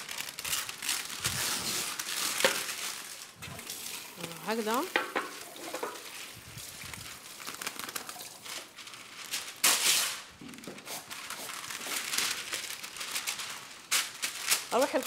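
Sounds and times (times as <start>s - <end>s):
flatbread crackling on a griddle: 0.0s - 15.0s.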